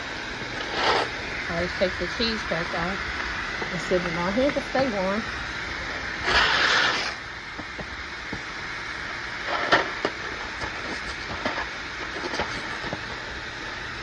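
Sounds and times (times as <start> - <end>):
pot of water boiling: 0.0 - 14.0.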